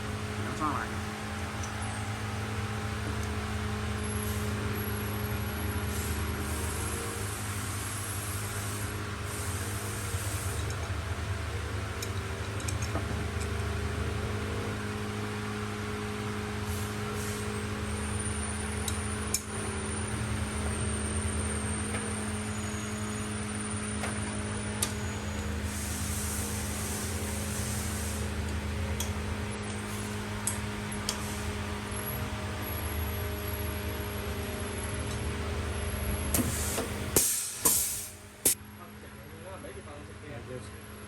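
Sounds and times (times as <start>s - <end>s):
workshop machine hum: 0.0s - 41.0s.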